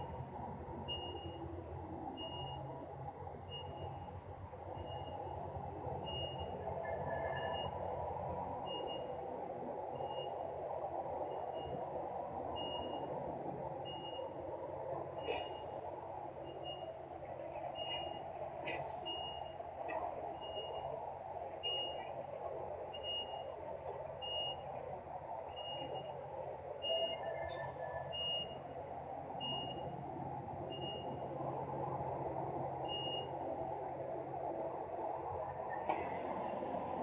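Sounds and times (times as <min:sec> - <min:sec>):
vehicle reversing alarm beeping: 0:00.8 - 0:37.0.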